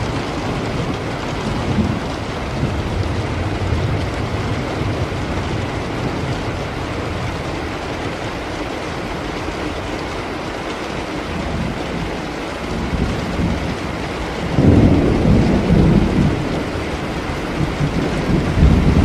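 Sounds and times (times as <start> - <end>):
thunder rumble: 0.0 - 10.1, 11.2 - 19.0
heavy rain: 0.0 - 19.0.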